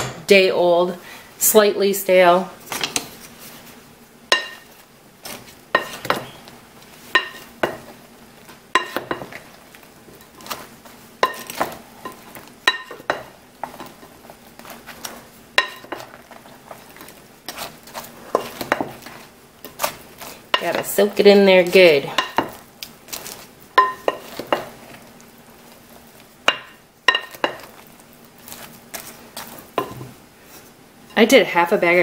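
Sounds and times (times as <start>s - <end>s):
wooden spoon stirring in bowl: 2.9s - 31.2s.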